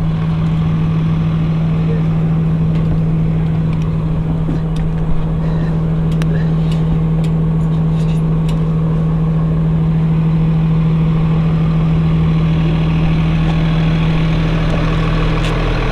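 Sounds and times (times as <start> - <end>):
bus engine idling: 0.0 - 15.9.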